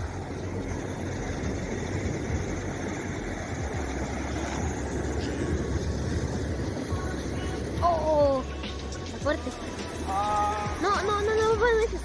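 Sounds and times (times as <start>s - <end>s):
wind on microphone: 0.0s - 11.8s.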